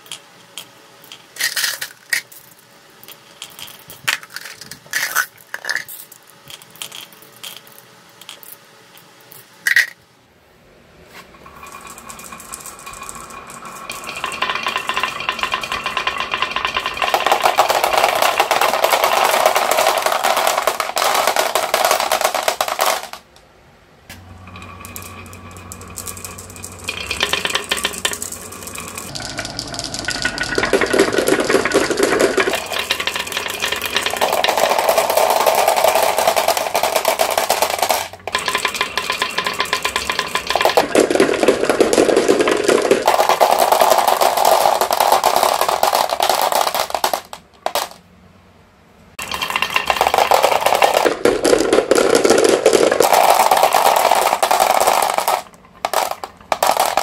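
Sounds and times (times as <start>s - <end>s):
glass marbles rattling down wooden tracks: 0.0s - 10.0s, 11.4s - 23.3s, 24.2s - 48.0s, 49.2s - 57.0s.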